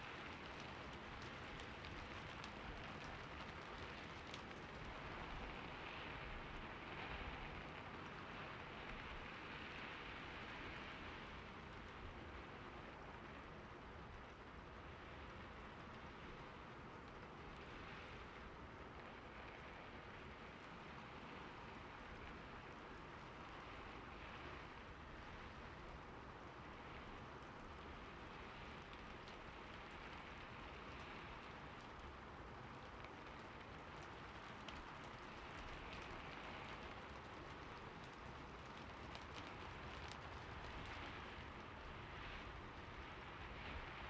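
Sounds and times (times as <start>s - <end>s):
rain on a roof: 0.0s - 44.0s.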